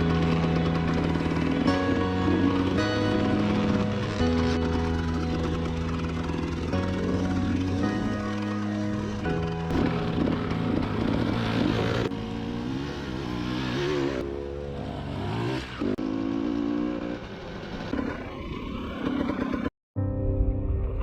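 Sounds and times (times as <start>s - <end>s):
dirt bike engine revving: 0.0s - 19.7s.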